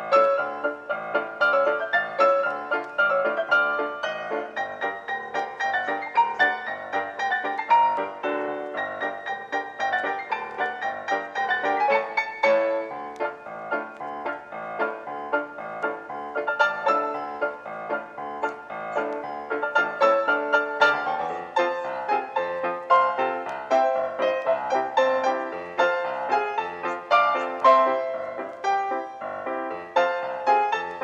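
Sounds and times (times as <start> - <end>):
background piano music: 0.0 - 31.0.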